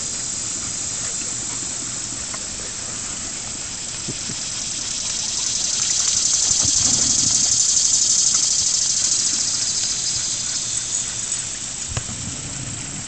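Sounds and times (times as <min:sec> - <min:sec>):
pond waterfall splashing: 0:00.0 - 0:13.0.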